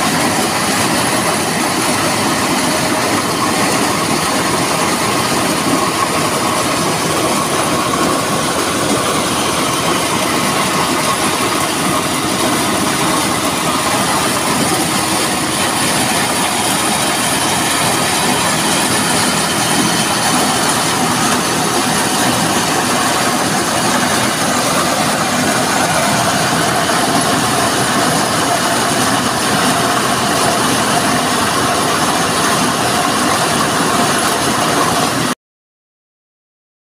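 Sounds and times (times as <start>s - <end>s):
corn sheller clattering: 0.0s - 35.3s.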